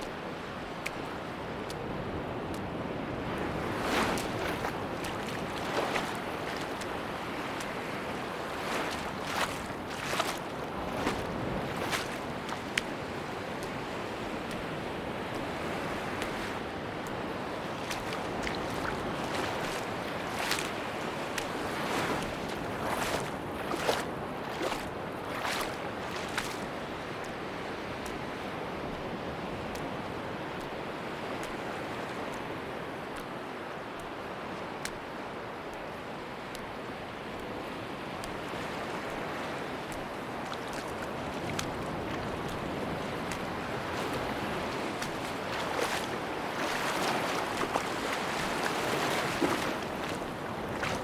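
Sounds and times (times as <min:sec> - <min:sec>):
ocean surf washing onto beach: 0:00.0 - 0:51.0.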